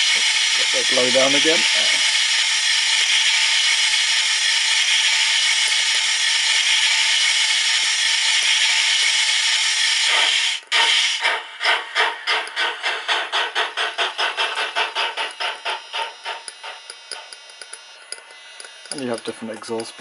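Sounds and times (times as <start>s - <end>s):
steam exhaust chuffs: 0.0s - 17.6s.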